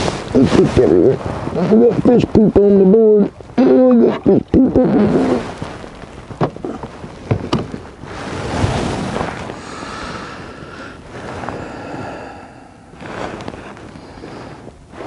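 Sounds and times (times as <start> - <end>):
wind rushing across microphone: 0.0 - 15.0.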